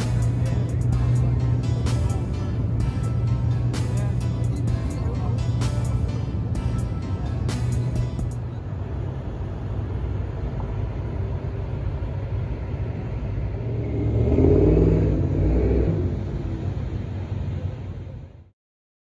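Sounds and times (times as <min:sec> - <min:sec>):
cars driving past rumbling: 0:00.0 - 0:18.5.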